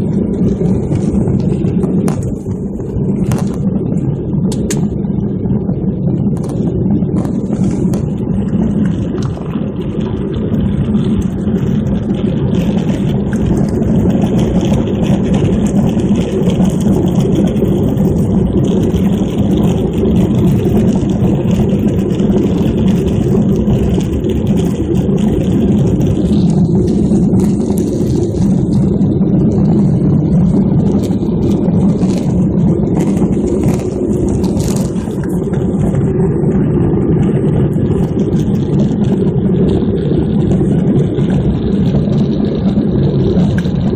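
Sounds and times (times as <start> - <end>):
airliner cabin engine roar: 0.0 - 43.9.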